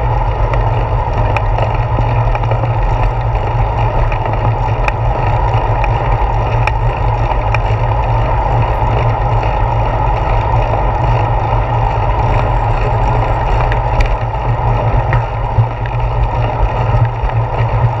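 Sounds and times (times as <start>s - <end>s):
tyre road rumble: 0.0s - 18.0s
wind buffeting microphone: 0.0s - 18.0s.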